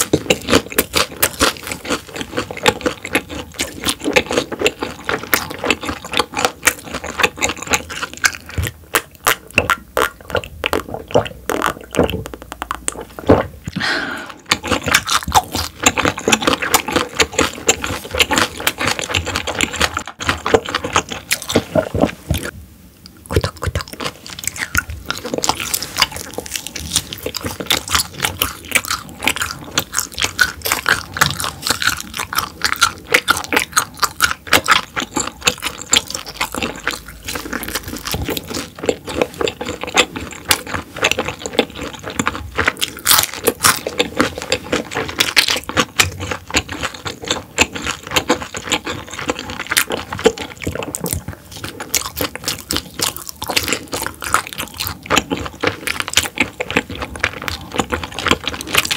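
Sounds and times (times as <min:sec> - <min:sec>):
close-up chewing with wet clicks: 0:00.0 - 0:13.8, 0:14.4 - 0:58.9.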